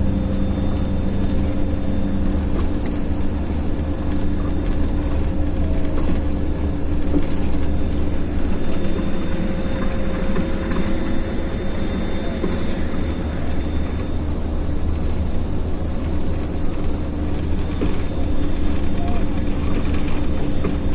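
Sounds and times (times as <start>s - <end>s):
road noise: 0.0s - 20.9s
vehicle engine rumble: 0.0s - 20.9s.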